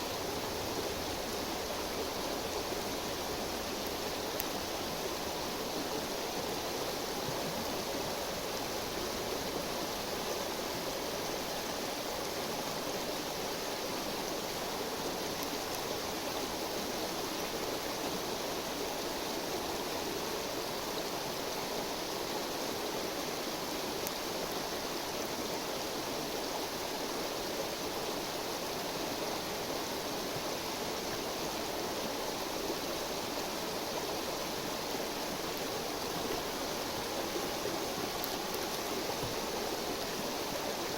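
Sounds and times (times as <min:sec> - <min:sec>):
river babbling: 0:00.0 - 0:40.9.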